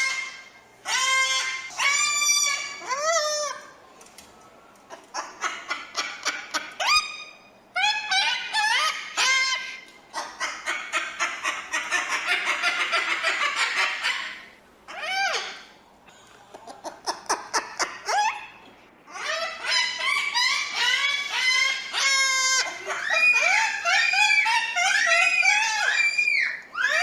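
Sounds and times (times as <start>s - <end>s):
cockatoo calling: 0.0s - 3.8s, 4.9s - 15.8s, 16.5s - 27.0s.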